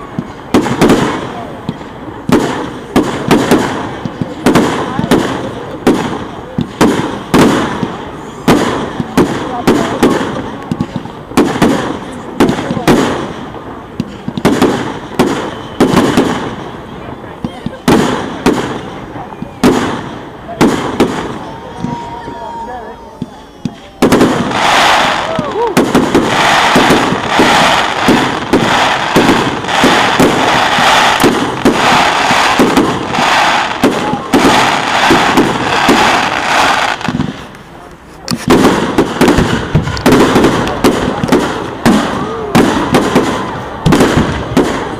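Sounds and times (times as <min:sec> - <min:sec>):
continuous fireworks hiss: 0:00.0 - 0:44.9
fireworks bangs: 0:00.0 - 0:44.9.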